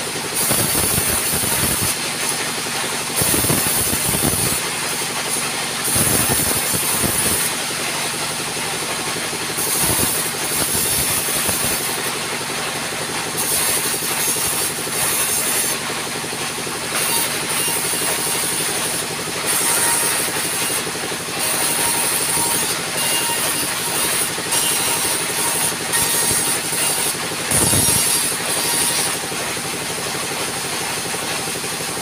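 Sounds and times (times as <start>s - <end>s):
high-pitched saw cutting boards: 0.0s - 12.2s, 13.2s - 15.9s, 16.8s - 29.6s
table saw running: 0.0s - 32.0s.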